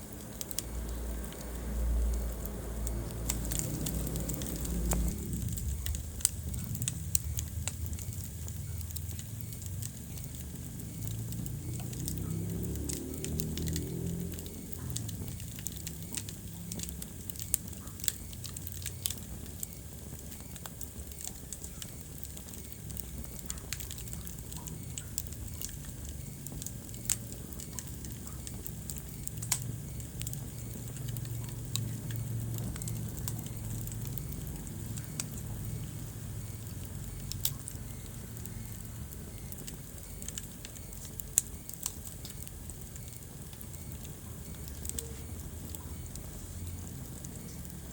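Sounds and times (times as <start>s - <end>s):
fire crackling and popping: 0.0s - 47.9s
low rumble of flames: 0.0s - 47.9s.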